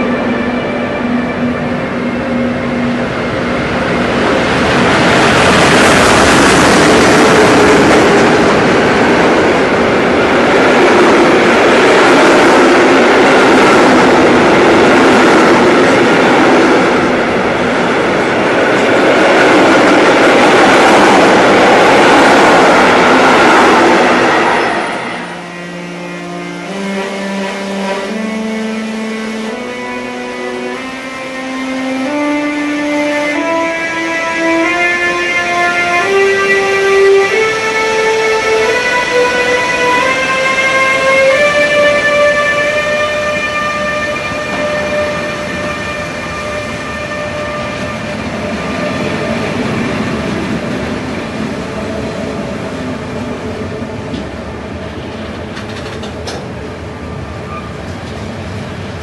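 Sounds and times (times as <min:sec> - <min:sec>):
freight train rushing past: 0:00.0 - 0:59.0.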